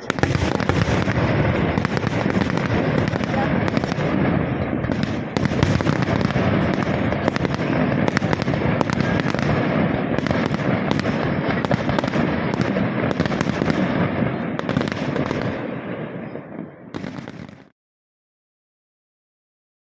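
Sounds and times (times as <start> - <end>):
fireworks cracks and bangs: 0.0 - 17.7.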